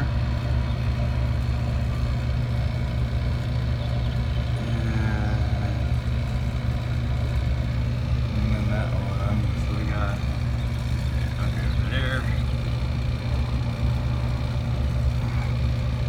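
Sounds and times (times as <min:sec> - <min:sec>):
air conditioning unit humming: 0:00.0 - 0:16.0.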